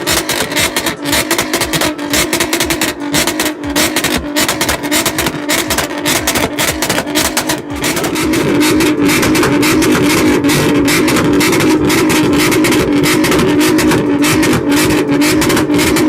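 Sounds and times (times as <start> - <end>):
car engine on launch limiter: 0.0 - 16.0
exhaust crackling pops: 0.0 - 16.0.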